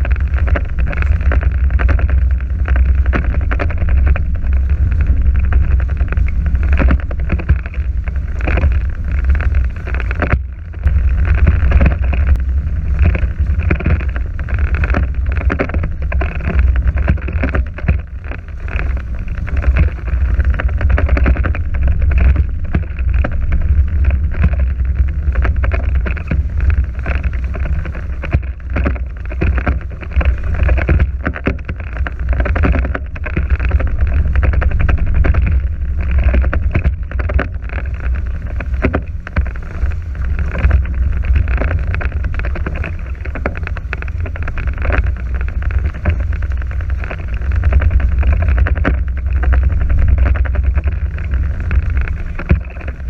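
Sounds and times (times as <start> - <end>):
wind buffeting the microphone: 0.0 - 53.0.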